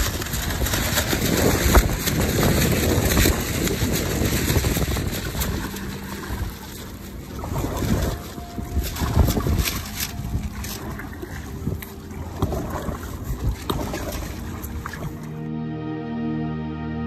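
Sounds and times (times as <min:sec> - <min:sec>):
wind buffeting microphone: 0:00.0 - 0:15.4
water splashing along hull: 0:00.0 - 0:15.5.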